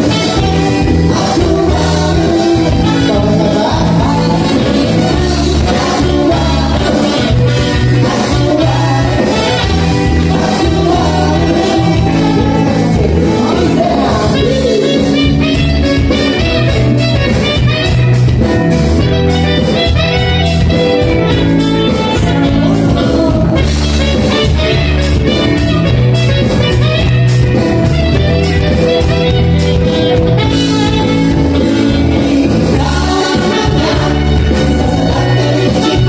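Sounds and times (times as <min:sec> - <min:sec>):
drum kit beat: 0:00.0 - 0:36.0
sustained band chords: 0:00.0 - 0:36.0.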